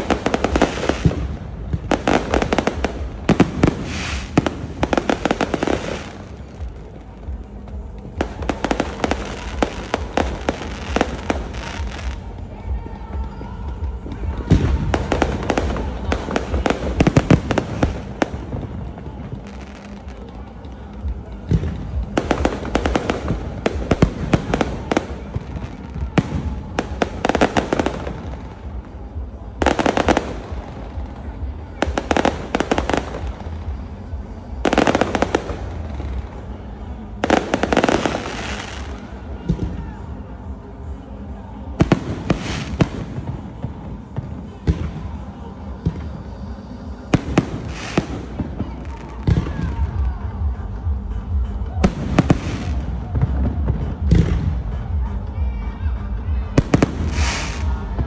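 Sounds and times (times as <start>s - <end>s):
fireworks shots and crackling: 0.0s - 40.1s, 41.6s - 55.3s, 55.9s - 58.0s.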